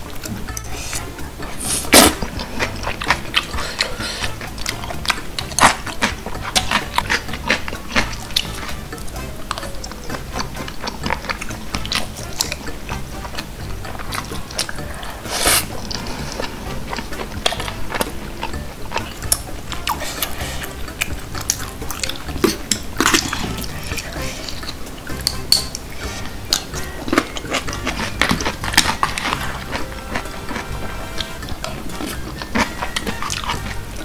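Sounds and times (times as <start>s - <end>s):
chewing crispy fried chicken: 0.0s - 34.0s
mouth clicks: 0.0s - 34.0s.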